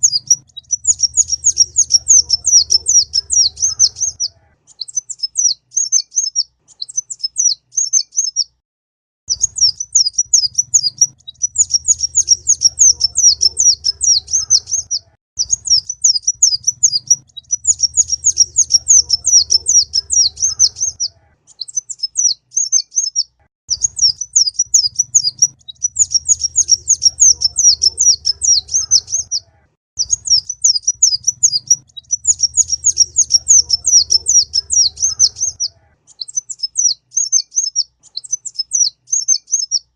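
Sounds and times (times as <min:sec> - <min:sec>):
sunbird twittering chirps: 0:00.0 - 0:08.6, 0:09.3 - 0:39.9.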